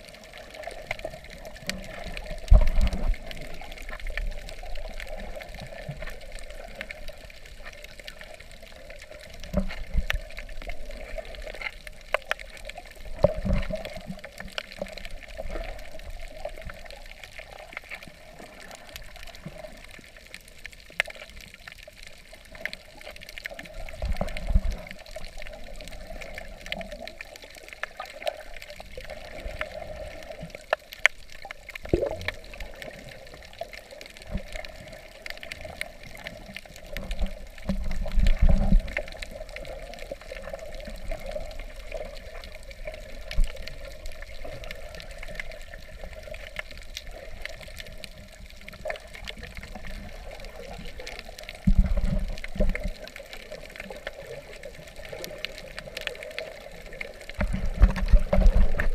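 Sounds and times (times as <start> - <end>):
muffled underwater sloshing water: 0.0 - 58.9.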